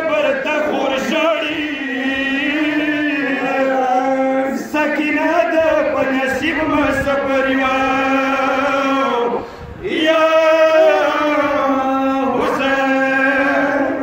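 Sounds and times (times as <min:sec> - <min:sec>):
man chanting a lament: 0:00.0 - 0:14.0.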